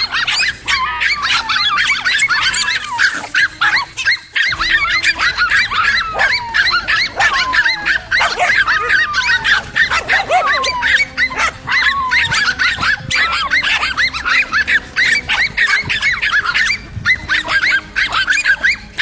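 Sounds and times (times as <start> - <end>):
dog whines: 0.0 - 19.0
dogs barking and yelping: 0.0 - 19.0.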